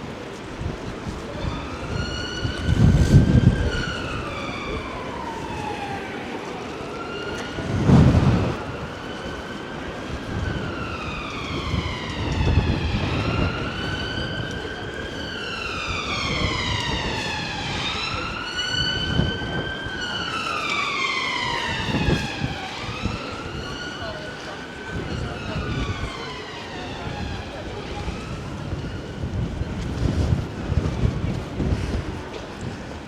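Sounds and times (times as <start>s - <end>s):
street noise: 0.0s - 33.0s
emergency siren wailing: 0.1s - 33.0s.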